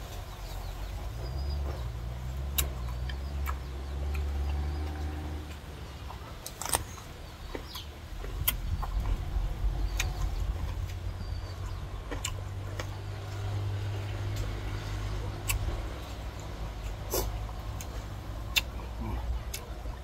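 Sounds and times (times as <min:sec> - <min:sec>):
vehicle engine rumbling past: 0:00.0 - 0:20.0.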